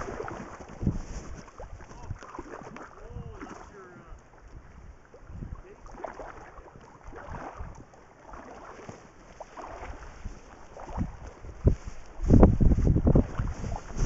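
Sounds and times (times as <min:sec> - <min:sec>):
fish splashing in shallow water: 0:00.0 - 0:14.0.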